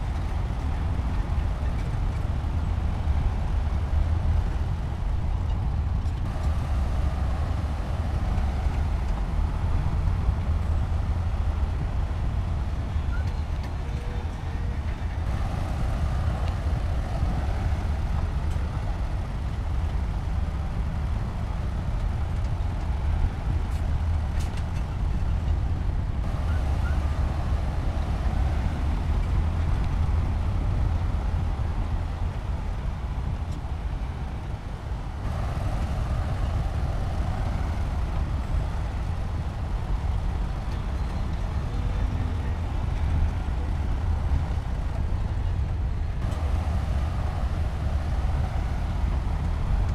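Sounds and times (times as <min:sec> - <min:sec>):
bulldozer diesel engine droning: 0:00.0 - 0:49.9.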